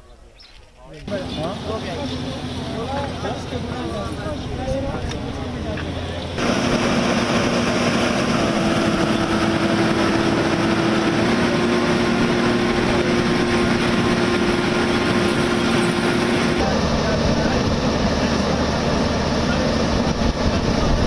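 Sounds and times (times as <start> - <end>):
excavator engine running: 1.0 - 21.0.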